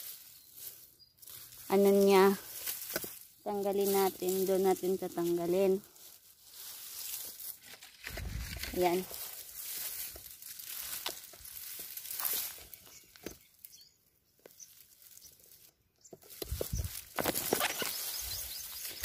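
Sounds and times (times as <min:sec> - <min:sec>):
rustling plants: 0:00.0 - 0:19.0.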